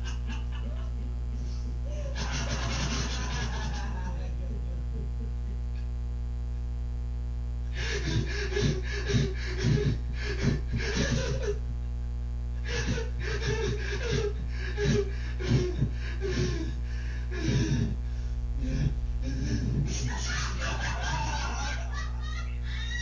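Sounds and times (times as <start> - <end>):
breathy laughter: 0.0 - 5.6, 7.7 - 11.6, 12.6 - 18.0, 18.6 - 23.0
low electrical hum: 0.0 - 23.0.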